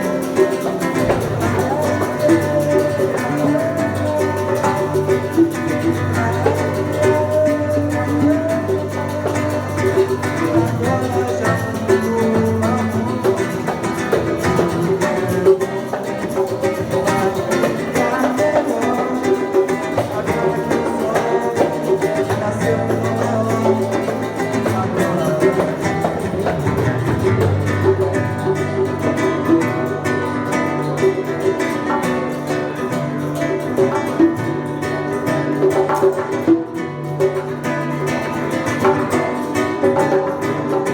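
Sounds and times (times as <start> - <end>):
acoustic guitar playing: 0.0 - 40.9.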